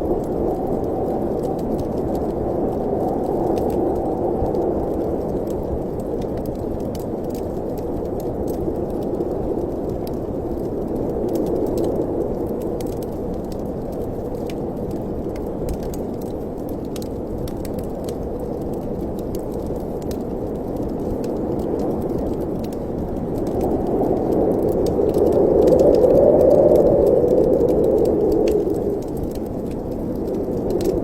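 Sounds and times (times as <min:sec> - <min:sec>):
steady wind blowing: 0:00.0 - 0:31.0
wood fire crackling: 0:00.0 - 0:31.0.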